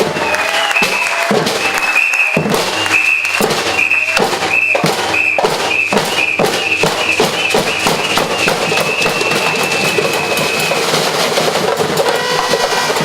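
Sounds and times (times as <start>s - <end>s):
drum strikes: 0.0s - 13.0s
shrill whistle blasts: 0.2s - 11.1s.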